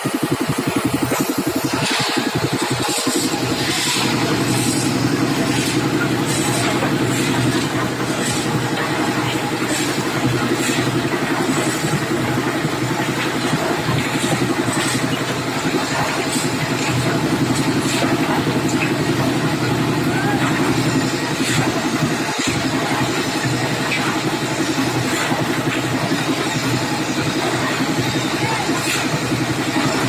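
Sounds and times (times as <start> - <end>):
concrete mixer engine running: 0.0 - 30.0.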